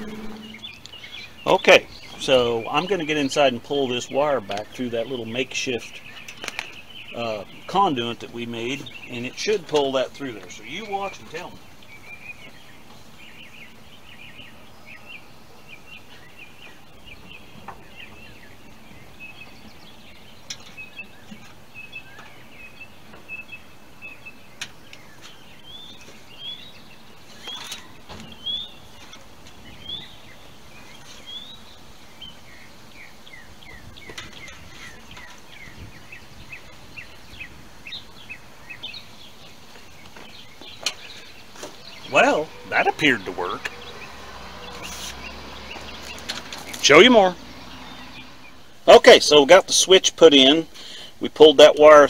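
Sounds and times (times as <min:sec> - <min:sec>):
outdoor background noise: 0:00.0 - 0:52.0
small birds chirping: 0:00.0 - 0:52.0.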